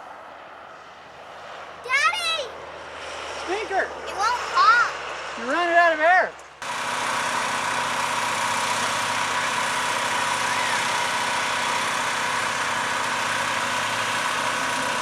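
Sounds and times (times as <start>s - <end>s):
engine humming with faint whine: 0.0s - 15.0s.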